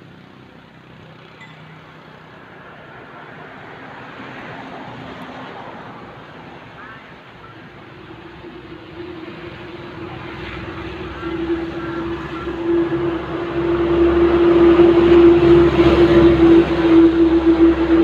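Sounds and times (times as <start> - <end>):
engine humming and rumbling: 0.0 - 18.0.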